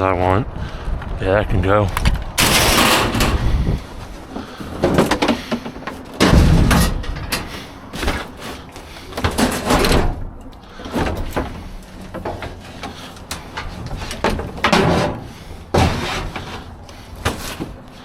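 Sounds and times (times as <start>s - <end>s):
scrap knocking and clattering: 2.4s - 17.8s.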